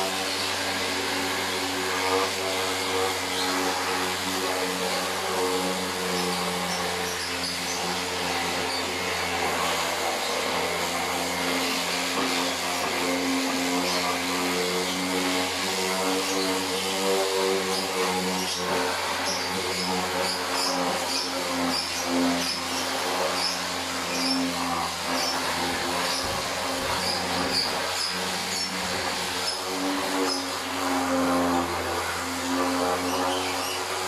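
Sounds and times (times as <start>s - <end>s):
electric sander sanding wood: 0.0s - 34.0s.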